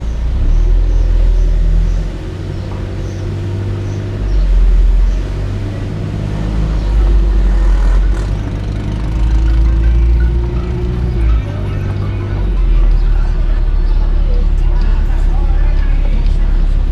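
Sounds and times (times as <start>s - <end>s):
car engine and road rumble: 0.0s - 16.9s.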